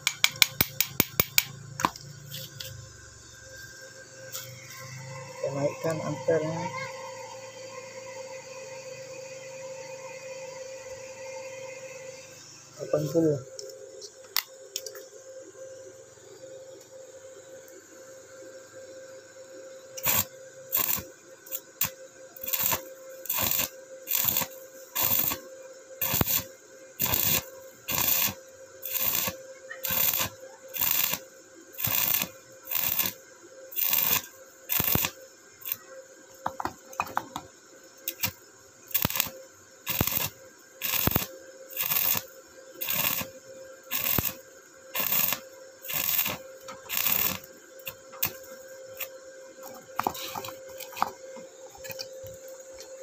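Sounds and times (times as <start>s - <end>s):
welding arc crackling and sizzling: 0.0s - 10.0s, 10.6s - 15.1s, 19.7s - 53.0s
faint steady tone: 1.5s - 53.0s.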